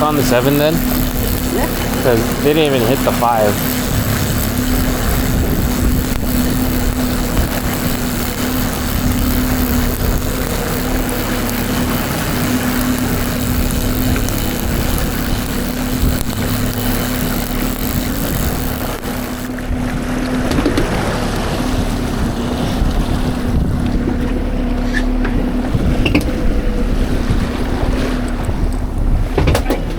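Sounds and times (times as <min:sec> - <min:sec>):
boat engine humming: 0:00.0 - 0:29.9
wind buffeting microphone: 0:00.0 - 0:29.9.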